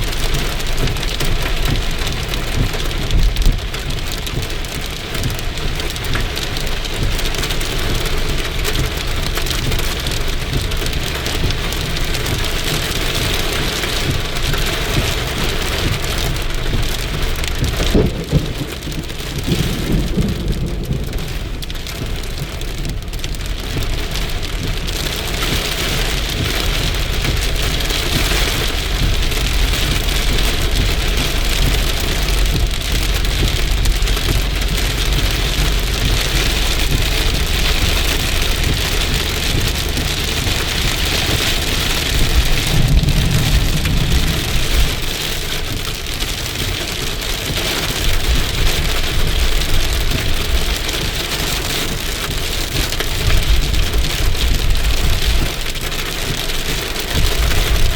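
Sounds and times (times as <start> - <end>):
low rumble: 0.0 - 51.1
heavy rain falling: 0.0 - 57.9.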